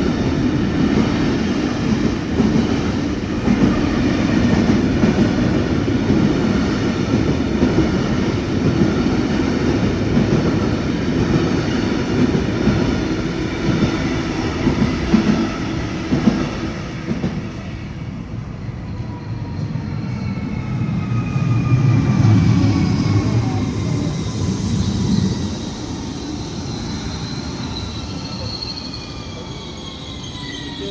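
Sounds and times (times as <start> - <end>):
freight train rumbling past: 0.0 - 30.9.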